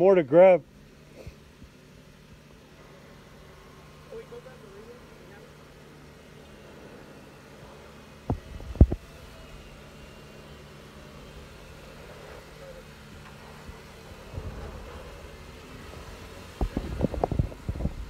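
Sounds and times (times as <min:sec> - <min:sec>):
car engine running low: 0:00.0 - 0:18.0.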